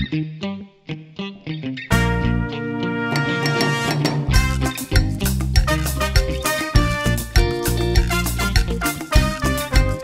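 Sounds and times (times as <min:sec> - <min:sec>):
upbeat music with bass: 0:00.0 - 0:00.7, 0:01.9 - 0:10.0.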